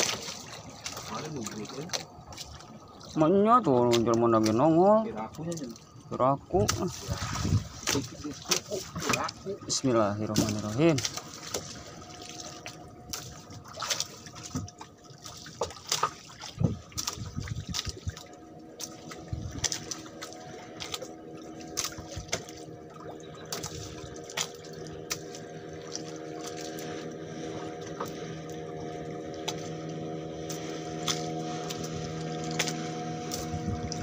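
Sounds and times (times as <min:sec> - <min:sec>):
steady droning hum: 0:00.0 - 0:34.0
water lapping against boat hull: 0:00.0 - 0:34.0.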